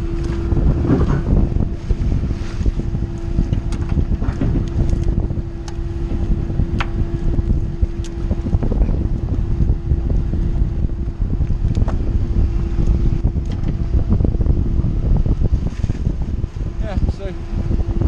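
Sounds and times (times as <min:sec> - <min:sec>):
low engine rumble: 0:00.0 - 0:18.0
steady hum: 0:00.0 - 0:18.0
wind buffeting microphone: 0:00.0 - 0:18.0.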